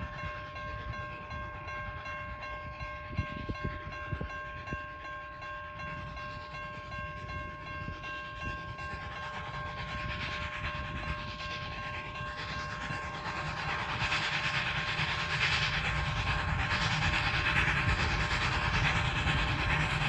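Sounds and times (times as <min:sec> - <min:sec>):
train hiss: 0:00.0 - 0:20.0
train rumbling: 0:00.0 - 0:20.0.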